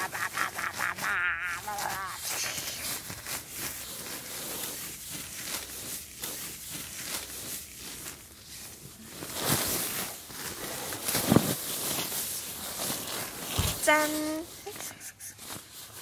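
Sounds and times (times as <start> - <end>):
sleeping bag fabric rustling: 0.0 - 16.0.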